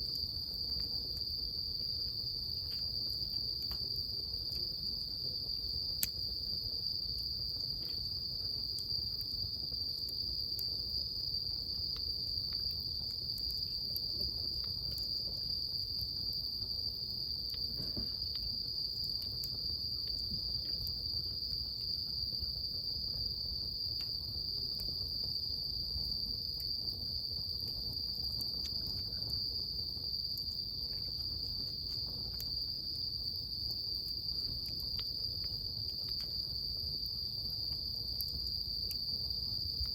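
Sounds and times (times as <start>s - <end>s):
bonfire wood crackling: 0.0s - 39.9s
crickets chirping: 0.0s - 39.9s
low rumble of flames: 0.0s - 39.9s.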